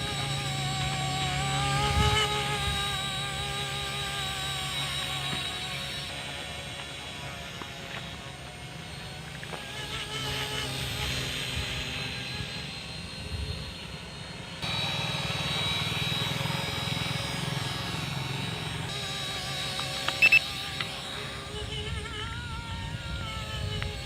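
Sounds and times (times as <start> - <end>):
model helicopter motor and rotor hum: 0.0 - 24.0.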